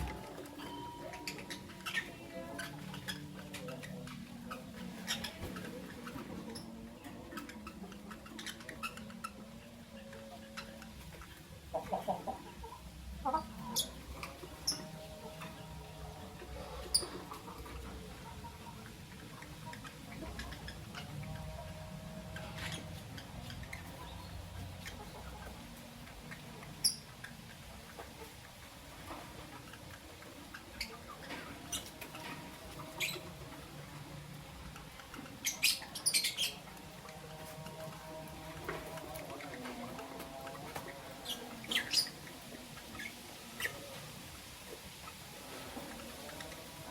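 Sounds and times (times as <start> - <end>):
lovebirds chattering: 0.0 - 46.9.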